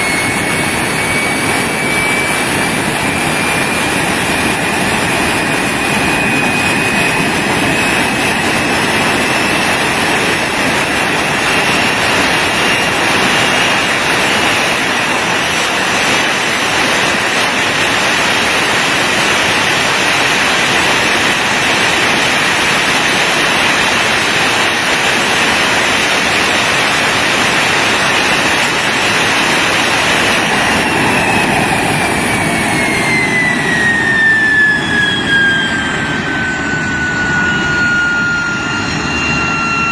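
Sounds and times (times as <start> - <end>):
jet engine roaring and whining: 0.0 - 39.9.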